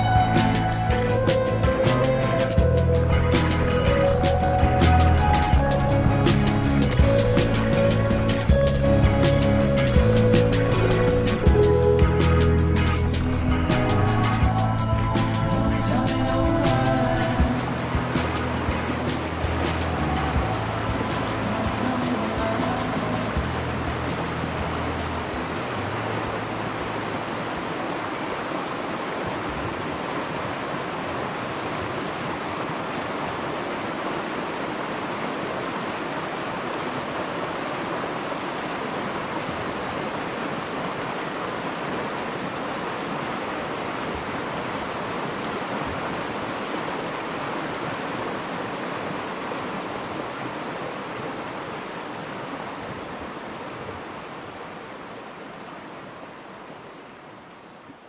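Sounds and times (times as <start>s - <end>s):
creek rushing over rocks: 0.2s - 58.0s.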